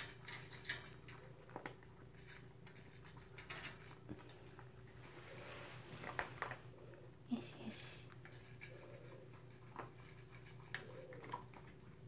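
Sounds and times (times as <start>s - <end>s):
dog eating from plastic bowl: 0.0s - 7.2s, 8.1s - 12.0s.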